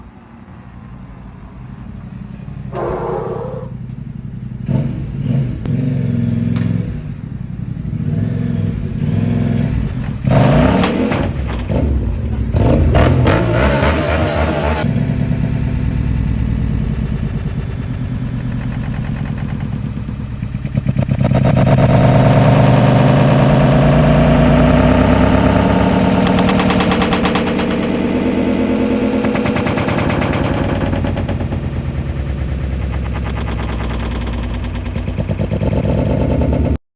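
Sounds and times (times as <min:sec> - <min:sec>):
motorcycle engine revving: 0:02.6 - 0:36.8.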